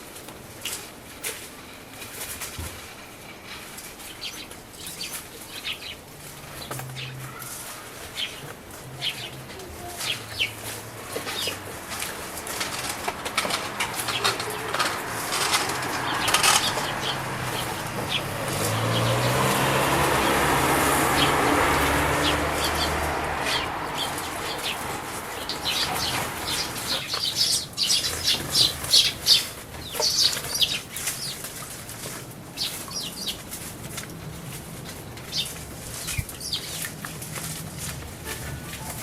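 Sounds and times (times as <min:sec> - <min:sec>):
birds splashing in water: 0:04.0 - 0:39.0.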